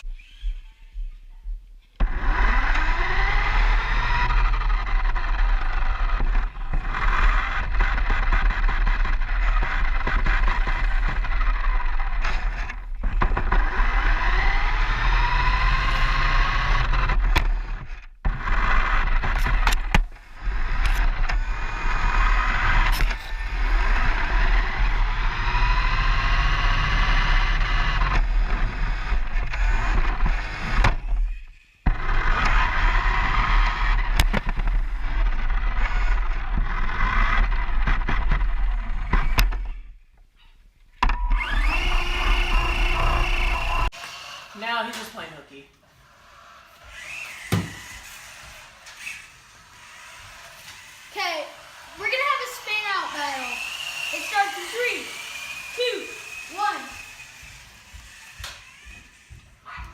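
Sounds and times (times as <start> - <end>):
rc car motor whining: 0.0 - 0.7, 2.0 - 59.9.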